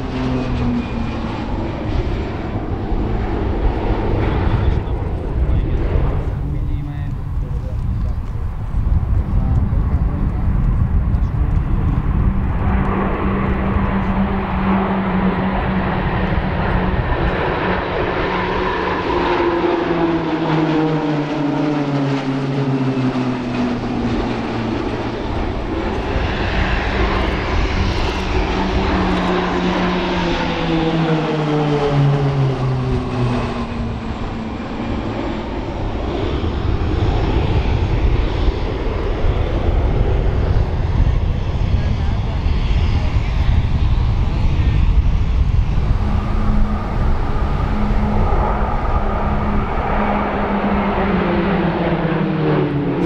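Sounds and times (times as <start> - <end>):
propeller aircraft flying past: 0.0 - 53.0.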